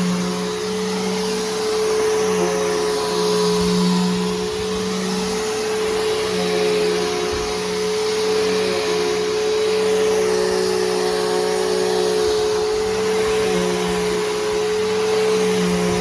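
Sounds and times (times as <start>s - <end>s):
vacuum cleaner motor whine: 0.0s - 16.0s.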